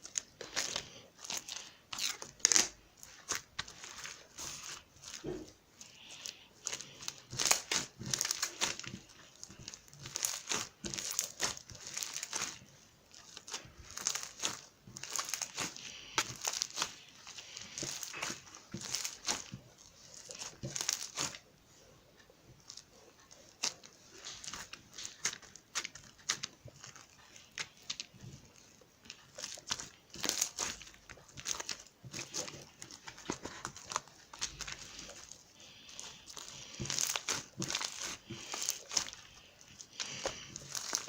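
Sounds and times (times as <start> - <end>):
slime squished by hand: 0.0 - 21.5, 22.6 - 41.0.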